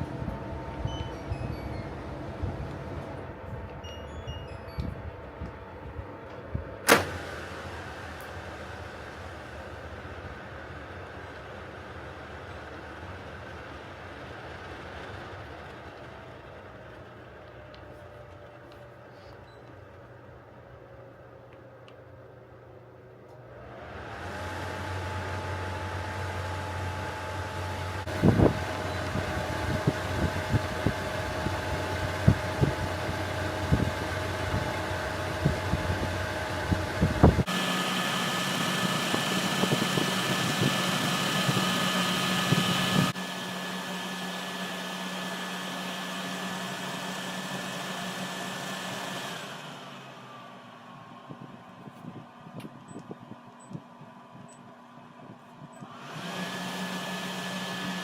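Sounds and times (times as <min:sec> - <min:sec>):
air conditioner fan whirring: 0:00.0 - 0:58.0.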